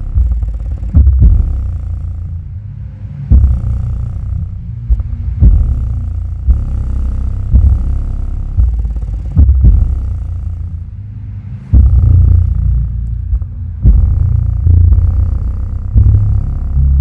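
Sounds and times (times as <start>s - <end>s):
subwoofer playing deep bass pulses: 0.0s - 17.0s.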